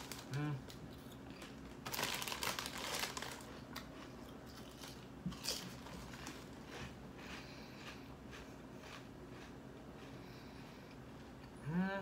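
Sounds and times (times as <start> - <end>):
potato chips crunching: 0.0 - 10.2.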